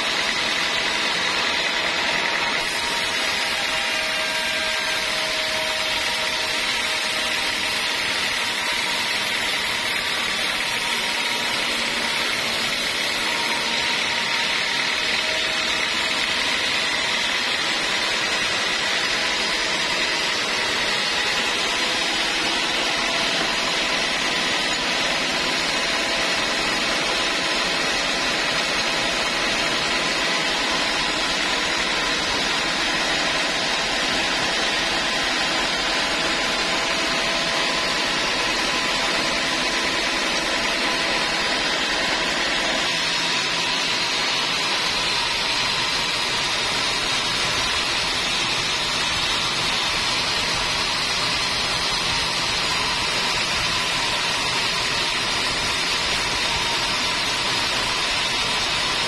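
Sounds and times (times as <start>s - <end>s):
band saw sawing through log: 0.0s - 59.0s.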